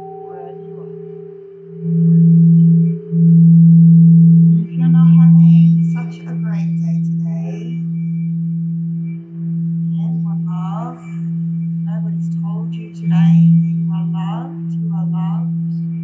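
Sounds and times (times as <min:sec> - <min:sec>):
singing bowl hum: 0:00.0 - 0:16.0.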